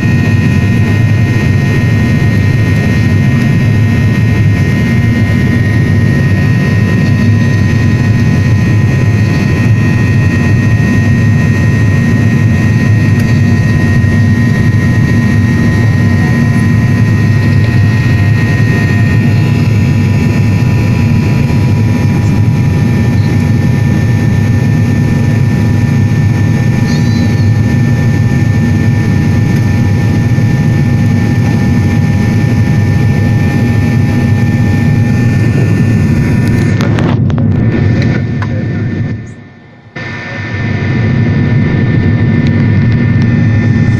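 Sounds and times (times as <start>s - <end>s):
faint whining tones: 0.0s - 43.9s
jet engine drone in cabin: 0.0s - 43.9s.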